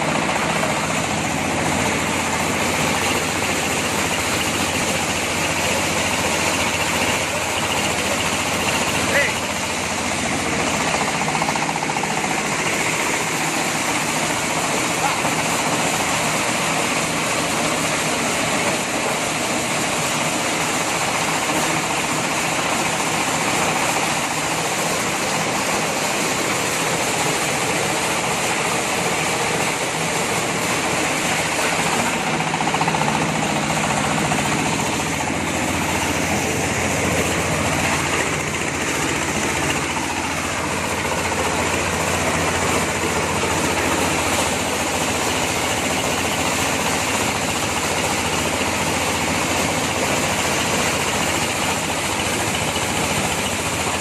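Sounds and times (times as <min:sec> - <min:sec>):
corn sheller mechanical noise: 0:00.0 - 0:54.0.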